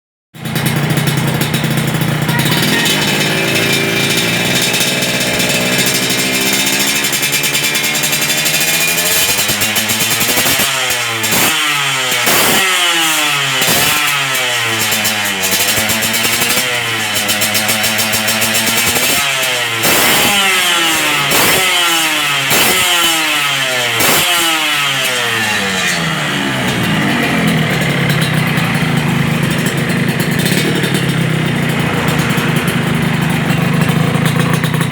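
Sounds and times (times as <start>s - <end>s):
motorcycle engine revving: 0.4s - 34.9s.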